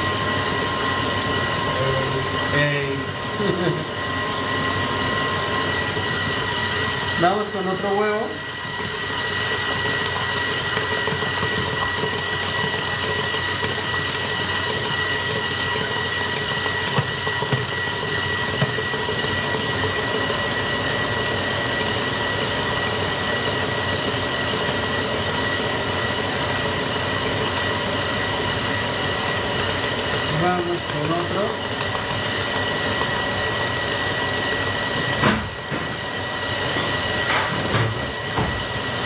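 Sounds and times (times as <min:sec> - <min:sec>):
stand mixer humming and whining: 0:00.0 - 0:39.0.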